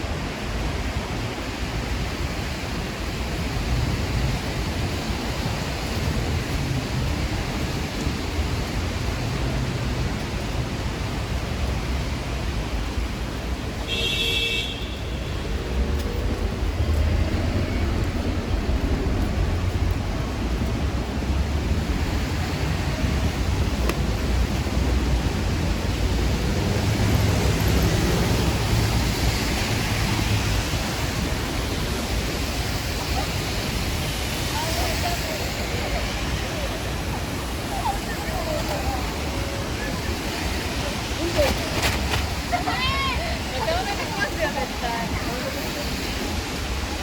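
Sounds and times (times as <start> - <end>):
low traffic rumble: 0.0 - 47.0
rain falling on street: 0.0 - 47.0.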